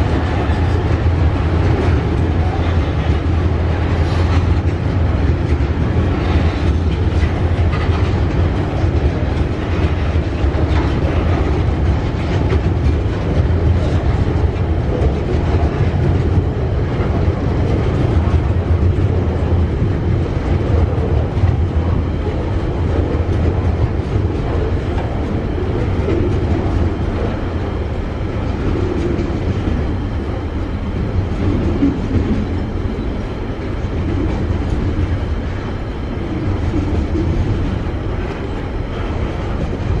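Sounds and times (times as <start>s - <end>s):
train wheels rolling on rails: 0.0s - 40.0s.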